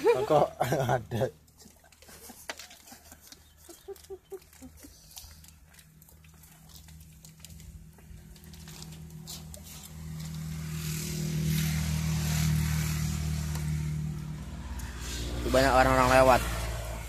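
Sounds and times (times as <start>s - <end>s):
vehicle engine hum passing: 2.8s - 17.0s.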